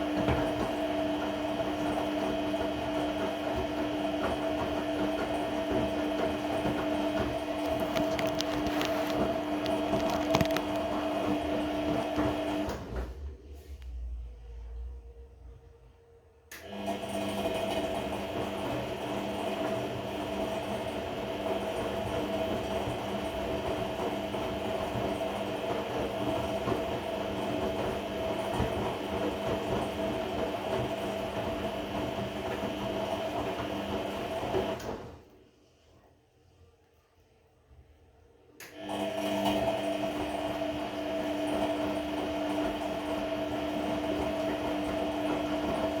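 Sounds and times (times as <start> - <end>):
washing machine motor whine: 0.0 - 35.5, 38.6 - 46.0.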